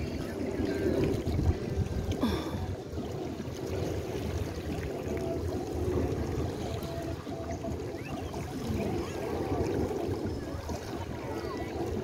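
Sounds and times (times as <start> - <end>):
water lapping over pebbles: 0.0 - 12.0.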